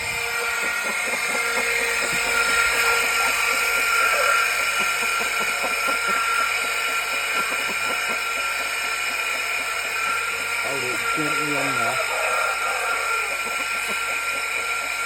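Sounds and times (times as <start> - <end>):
electric grinder whining: 0.0 - 15.0.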